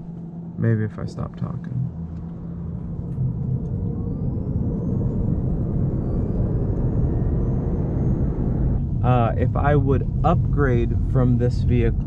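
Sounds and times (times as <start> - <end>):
drivetrain and road rumble: 0.0 - 12.0
faint high whine: 0.0 - 12.0.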